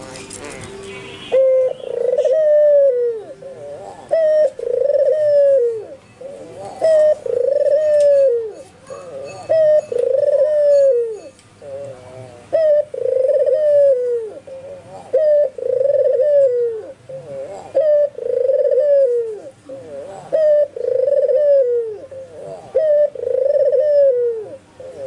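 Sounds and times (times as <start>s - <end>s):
dove cooing: 0.4s - 25.0s.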